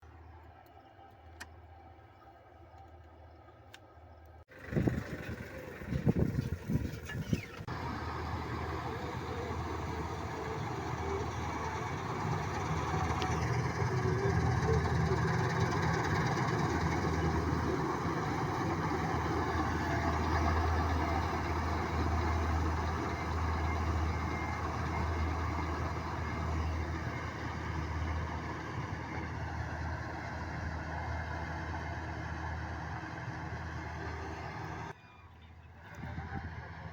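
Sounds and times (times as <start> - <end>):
diesel engine humming: 4.0 - 36.9.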